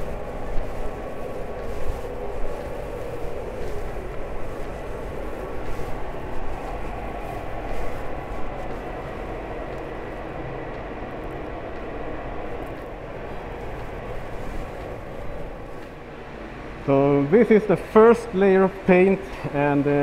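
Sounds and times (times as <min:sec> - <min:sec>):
ventilation fans rumbling: 0:00.0 - 0:20.0.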